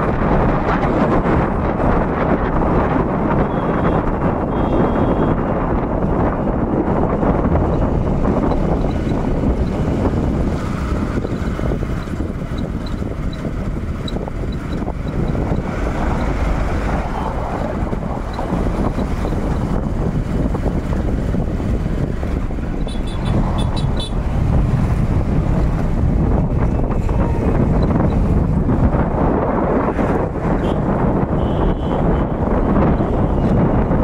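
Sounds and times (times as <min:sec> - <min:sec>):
road traffic rumble: 0:00.0 - 0:34.0
wind buffeting microphone: 0:00.0 - 0:34.0.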